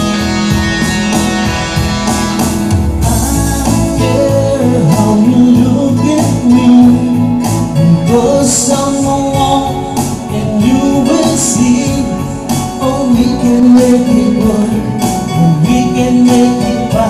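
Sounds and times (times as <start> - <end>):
reggae band playing: 0.0 - 17.0
man singing into microphone: 3.0 - 17.0.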